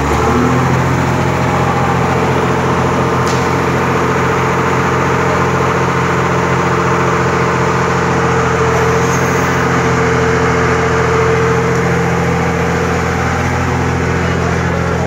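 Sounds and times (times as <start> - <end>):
crane engine running: 0.0 - 15.0
high steady whine: 0.0 - 15.0.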